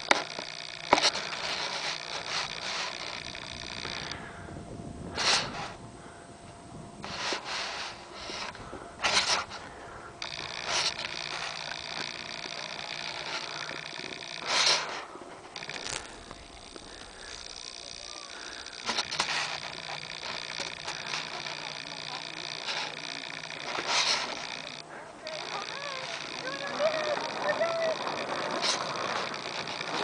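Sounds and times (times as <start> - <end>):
person breathing and sniffing: 0.1 - 6.3, 7.0 - 26.5.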